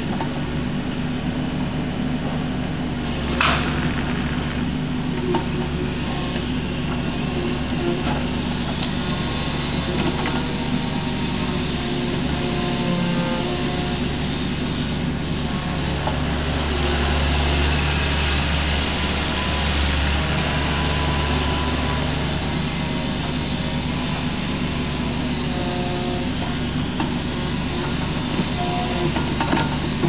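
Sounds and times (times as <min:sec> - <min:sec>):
excavator engine and hydraulics: 0:00.0 - 0:30.0.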